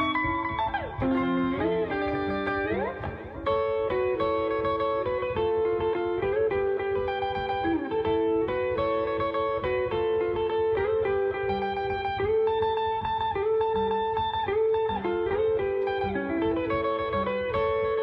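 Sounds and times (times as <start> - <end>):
guitar melodic lead line: 0.0 - 18.0.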